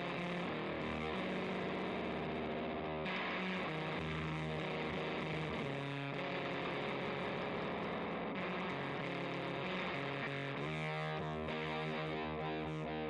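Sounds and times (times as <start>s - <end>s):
fuzz-distorted electric guitar: 0.0s - 13.0s.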